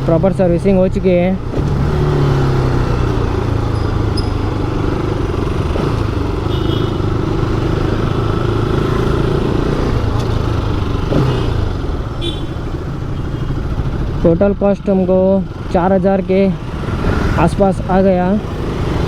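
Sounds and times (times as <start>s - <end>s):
motorcycle engine cruising: 0.0s - 19.0s
road noise: 0.0s - 19.0s.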